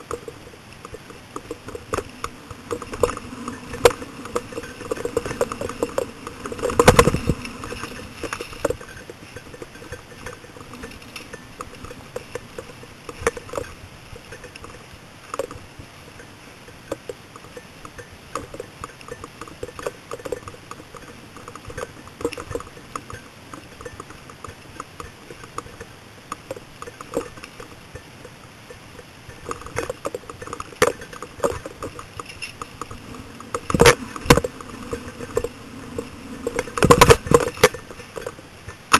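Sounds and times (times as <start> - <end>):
mountain bike rattling: 0.0 - 38.9.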